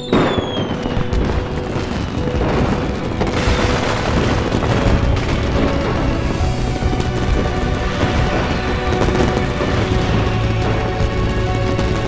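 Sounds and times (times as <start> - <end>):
deep fireworks booms: 0.0 - 12.0
falling firework whistle: 0.0 - 12.0
fireworks bursting and crackling: 0.0 - 12.0
music with held notes: 0.6 - 12.0.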